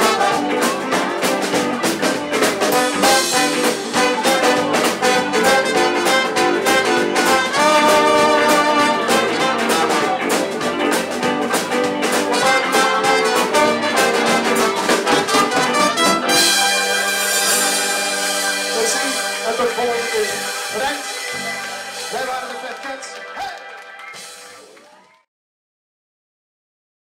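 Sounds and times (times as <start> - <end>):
rock and roll band playing: 0.0 - 25.0.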